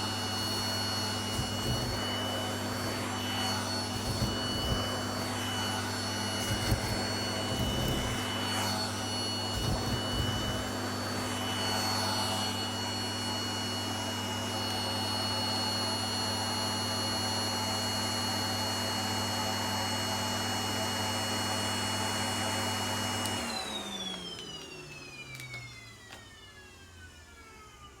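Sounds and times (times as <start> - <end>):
vacuum cleaner motor running: 0.0 - 28.0.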